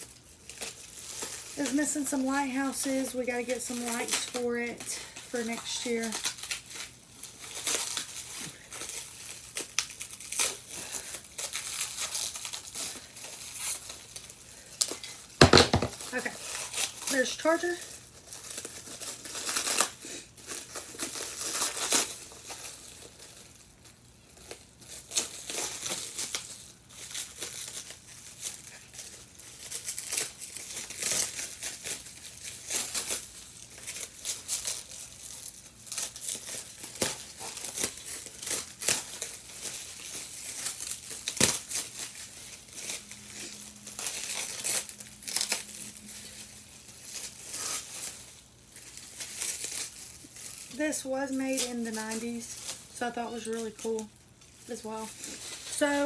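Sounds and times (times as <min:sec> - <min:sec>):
foam packing peanuts rustling: 0:00.0 - 0:56.0
wrapping crinkling: 0:00.0 - 0:56.0.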